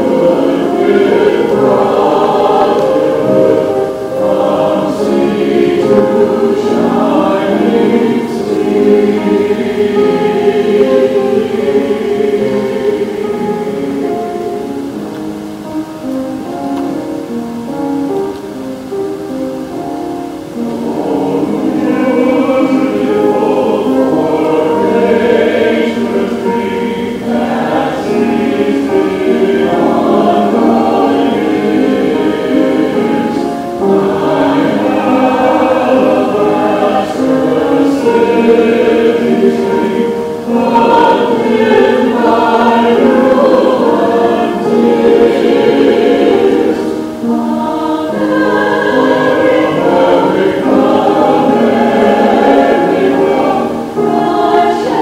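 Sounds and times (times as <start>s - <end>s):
group singing a hymn: 0.0s - 18.2s, 18.8s - 55.0s.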